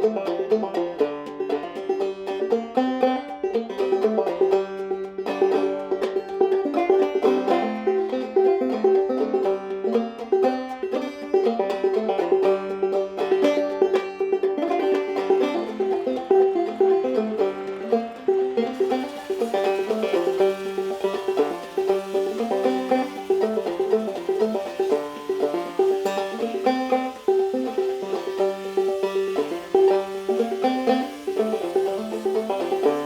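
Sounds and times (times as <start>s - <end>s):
banjo picking: 0.0s - 33.0s.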